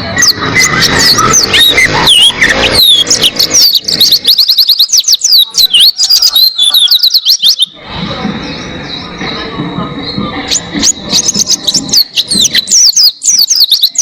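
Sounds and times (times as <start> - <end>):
bird singing high chirps: 0.0 - 7.8, 8.4 - 14.0.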